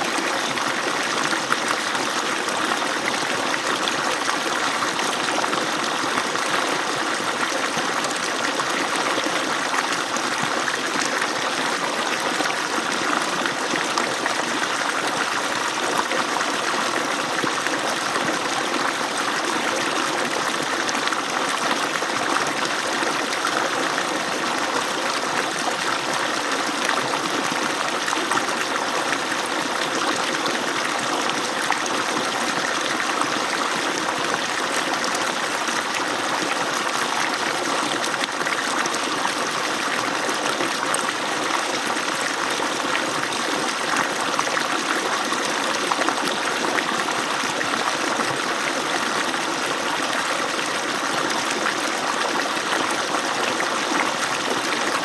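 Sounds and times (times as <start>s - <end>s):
water rushing from pump outlet: 0.0s - 55.0s.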